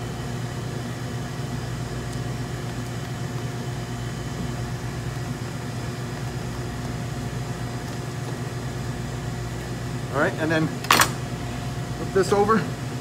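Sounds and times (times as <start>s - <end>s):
kitchen machinery hum: 0.0s - 13.0s.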